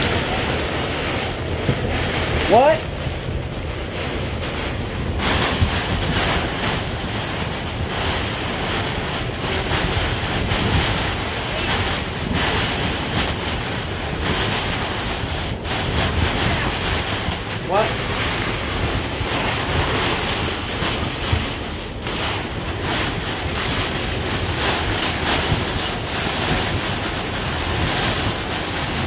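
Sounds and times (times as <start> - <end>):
heavy rain on boat: 0.0 - 29.0
wind: 0.0 - 29.0.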